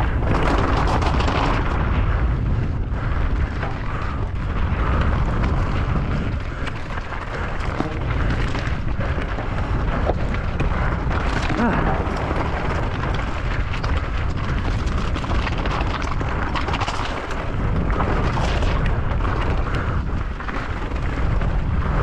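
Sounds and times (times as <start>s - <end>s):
bike rattling over rough ground: 0.0s - 22.0s
wind rumble on microphone: 0.0s - 22.0s.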